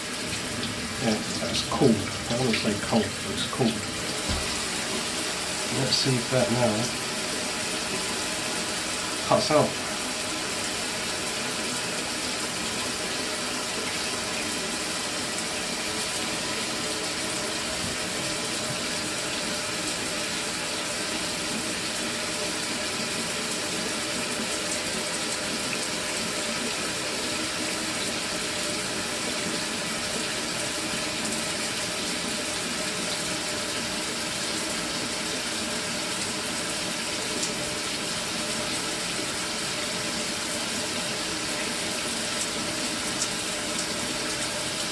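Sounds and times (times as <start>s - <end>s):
shower water running: 0.0s - 44.9s.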